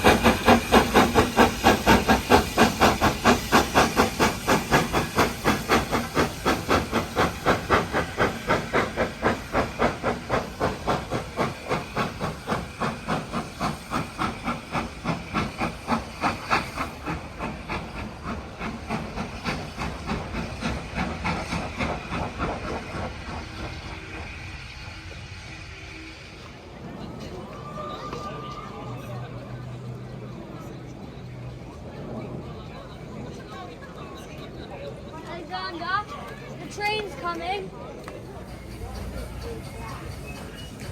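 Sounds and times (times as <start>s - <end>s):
hissing steam: 0.0s - 32.4s, 35.5s - 40.9s
steam locomotive chuffing: 0.0s - 40.9s.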